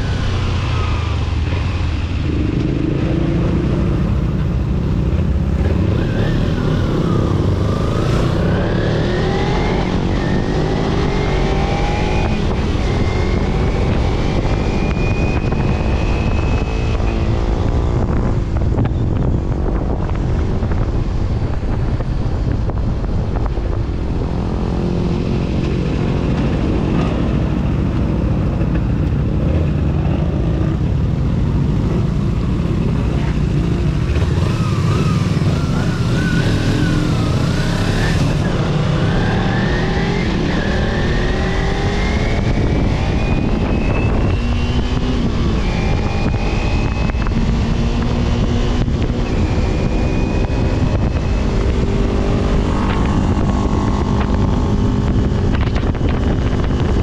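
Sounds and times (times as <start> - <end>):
vehicle engine accelerating: 0.0 - 57.0
wind on microphone: 0.0 - 57.0.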